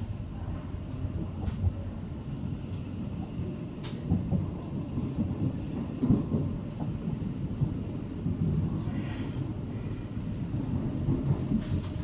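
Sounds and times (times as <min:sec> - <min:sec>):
train interior rumble: 0:00.0 - 0:12.0.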